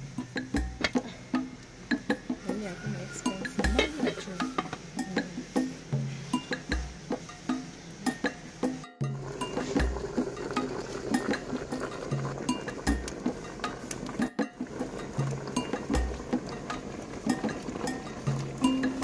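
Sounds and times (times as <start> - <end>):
plucked string notes: 3.2 - 19.0.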